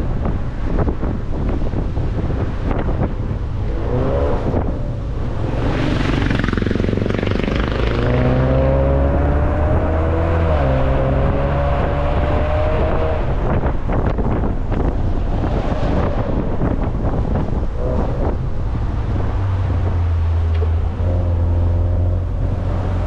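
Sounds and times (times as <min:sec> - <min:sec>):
car engine under load: 0:00.0 - 0:23.0
road and wind noise: 0:00.0 - 0:23.0.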